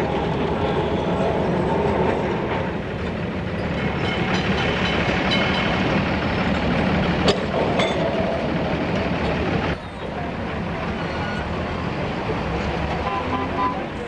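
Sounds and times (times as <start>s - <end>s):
tram engine rumbling: 0.0s - 14.0s.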